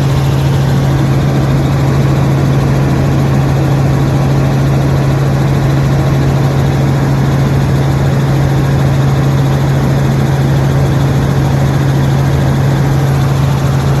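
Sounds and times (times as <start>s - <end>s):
helicopter engine and rotors droning: 0.0s - 14.0s.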